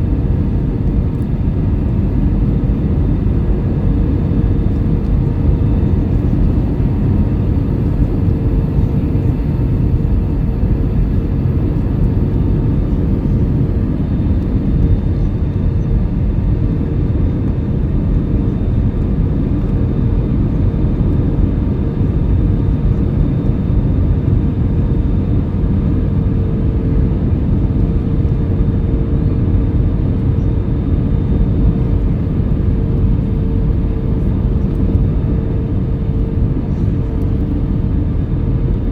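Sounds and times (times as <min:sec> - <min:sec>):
airliner cabin engine rumble: 0:00.0 - 0:38.9
constant hum: 0:00.0 - 0:38.9.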